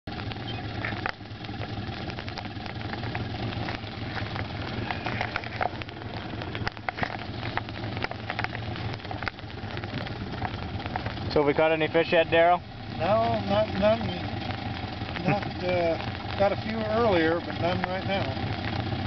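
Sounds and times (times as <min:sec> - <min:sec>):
engine idling: 0:00.0 - 0:19.0
light irregular ticks: 0:00.1 - 0:19.0.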